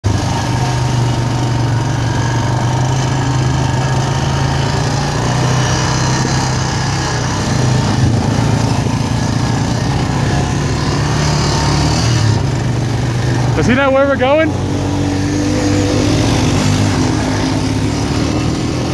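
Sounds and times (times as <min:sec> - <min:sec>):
atv engine drone: 0:00.0 - 0:18.9.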